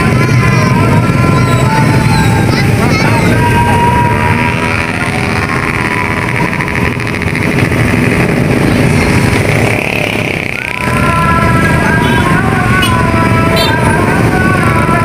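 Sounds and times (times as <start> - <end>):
motorcycles passing: 0.0 - 15.0
people's voices: 0.0 - 15.0.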